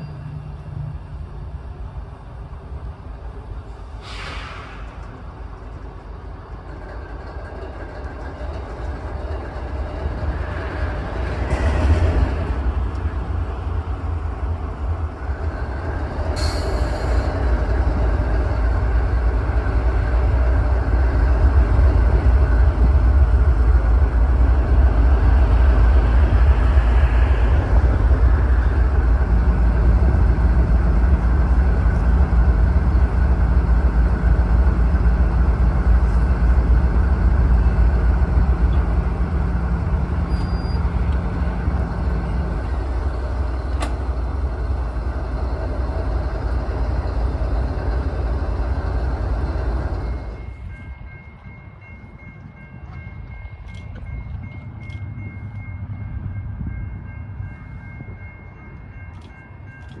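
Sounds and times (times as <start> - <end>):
freight train rumble: 0.0 - 60.0.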